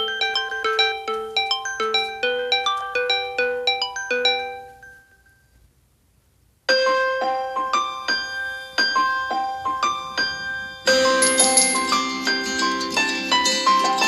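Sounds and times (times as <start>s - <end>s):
phone alarm chiming melody: 0.0s - 5.5s, 6.7s - 12.9s
bell-like keyboard melody: 0.0s - 5.6s, 6.7s - 14.0s.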